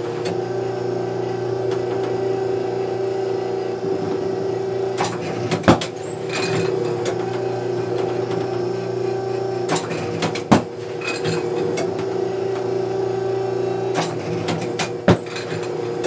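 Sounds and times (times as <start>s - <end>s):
clay target trap humming: 0.0s - 16.0s.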